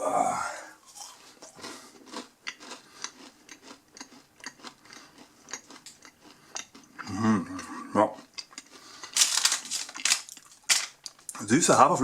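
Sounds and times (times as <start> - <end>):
crunchy granola bar chewing: 0.9 - 11.2.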